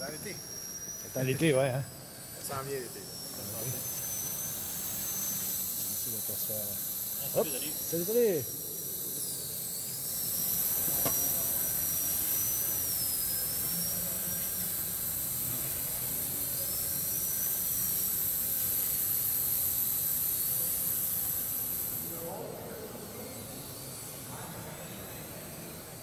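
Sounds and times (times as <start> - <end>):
quadcopter propellers whining: 0.0 - 26.0.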